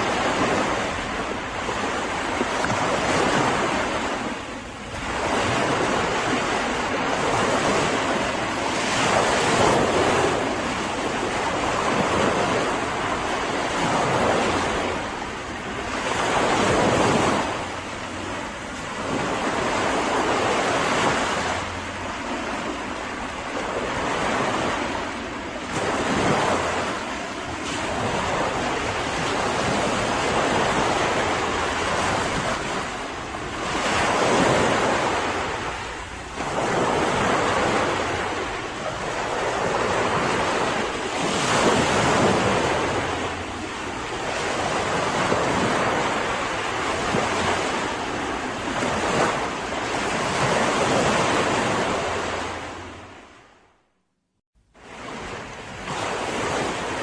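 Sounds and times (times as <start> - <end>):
wind on microphone: 0.0 - 53.3
waves breaking on beach: 0.0 - 53.6, 54.8 - 57.0.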